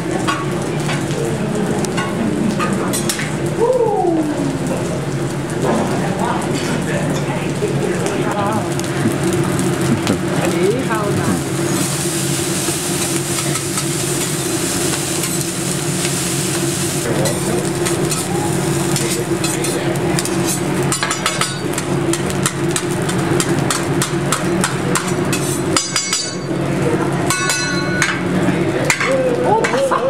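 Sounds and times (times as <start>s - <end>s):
rice sizzling on a griddle: 0.0s - 30.0s.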